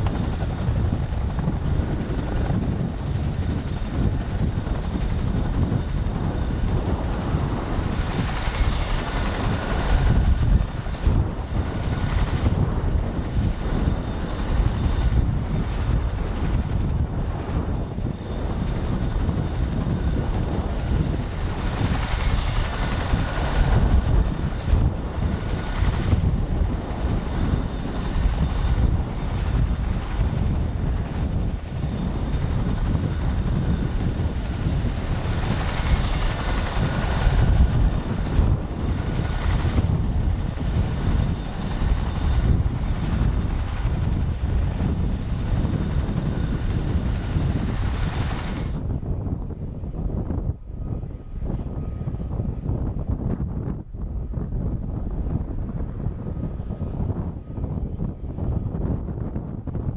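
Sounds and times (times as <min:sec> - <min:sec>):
helicopter rotor rumble: 0:00.0 - 0:59.9
high turbine whine: 0:00.0 - 0:59.9.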